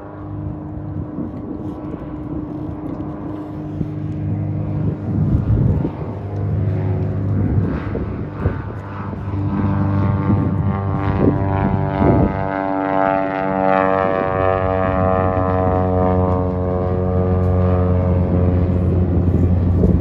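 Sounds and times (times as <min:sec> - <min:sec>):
propeller plane engine droning: 0:00.0 - 0:20.0.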